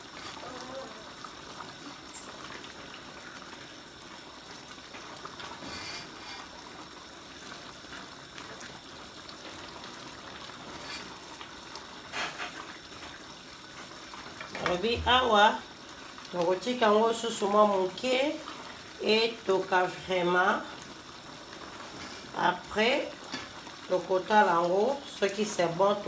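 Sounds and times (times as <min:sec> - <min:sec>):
stew bubbling in pot: 0:00.0 - 0:26.0.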